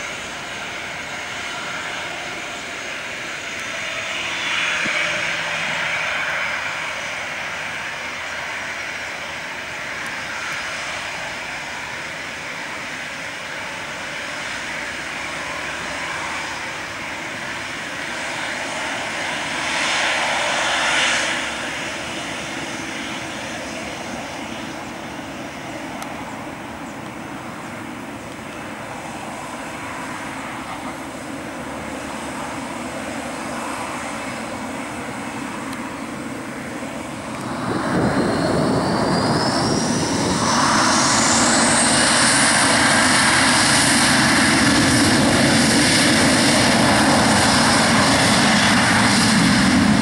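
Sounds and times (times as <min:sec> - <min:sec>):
jet engines taxiing past: 0:00.0 - 0:50.0.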